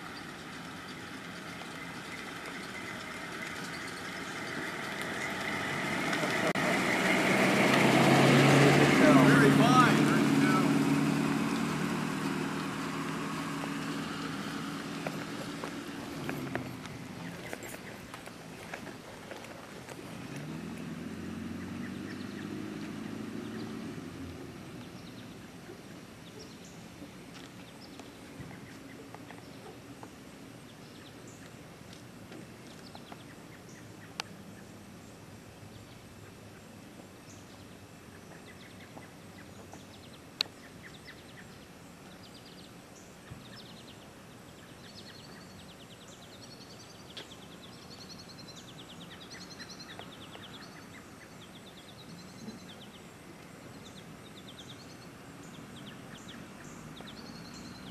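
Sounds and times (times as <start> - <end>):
birds chirping: 0.0 - 31.7, 32.4 - 57.9
vehicle engine hum: 0.0 - 57.9.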